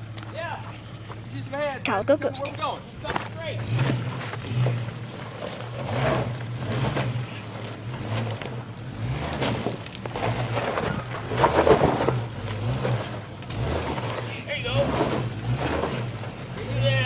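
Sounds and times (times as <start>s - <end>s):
vehicle engine at low revs: 0.0s - 17.0s.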